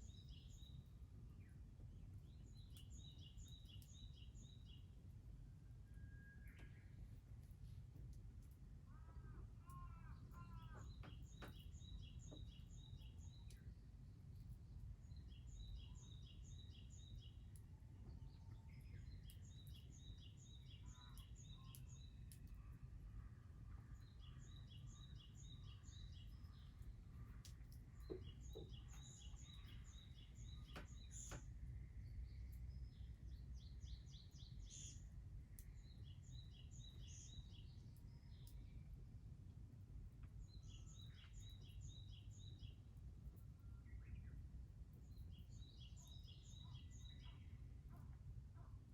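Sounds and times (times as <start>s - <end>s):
songbird singing: 0.0s - 5.0s, 5.8s - 39.0s, 40.0s - 48.9s.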